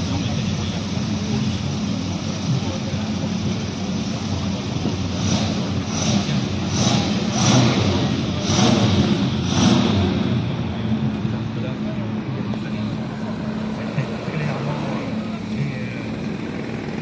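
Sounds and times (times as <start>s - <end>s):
car engines droning: 0.0s - 17.0s.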